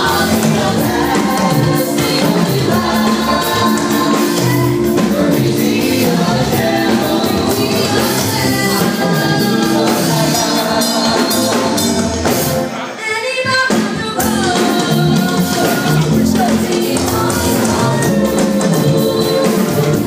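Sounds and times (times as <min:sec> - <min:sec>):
accompaniment with percussive beat: 0:00.0 - 0:12.8, 0:13.7 - 0:20.0
children's choir singing: 0:00.0 - 0:13.0, 0:14.1 - 0:20.0.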